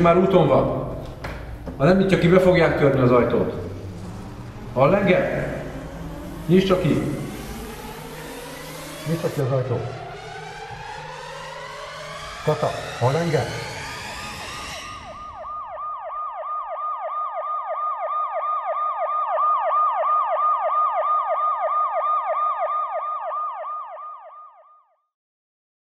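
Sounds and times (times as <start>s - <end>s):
police siren yelping: 0.0s - 25.0s.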